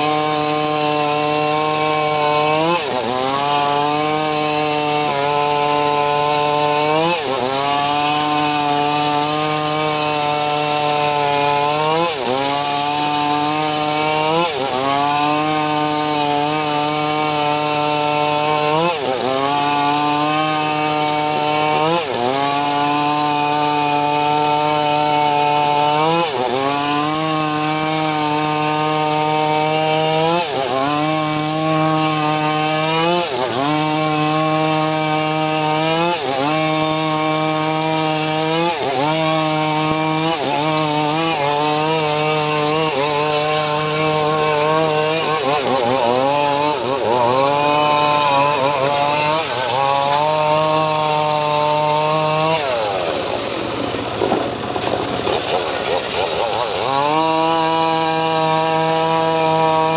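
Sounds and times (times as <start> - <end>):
sawmill engine sawing wood: 0.0 - 59.9.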